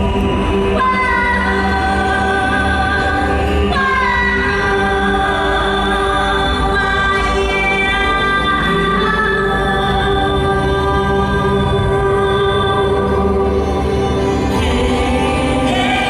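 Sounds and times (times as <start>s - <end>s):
choral vocal chords: 0.0s - 16.0s
steady bass: 0.0s - 16.0s.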